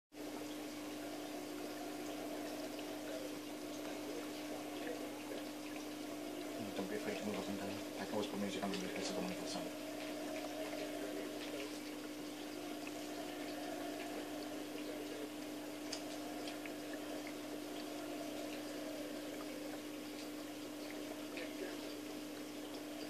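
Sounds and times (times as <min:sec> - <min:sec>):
aquarium water trickling: 0:00.1 - 0:23.0
faint drip-like ticks: 0:00.2 - 0:23.0
low hum: 0:00.2 - 0:23.0.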